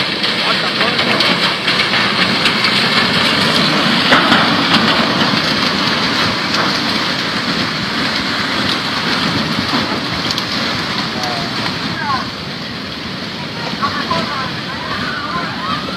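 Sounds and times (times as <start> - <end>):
flood water rushing: 0.0 - 15.9.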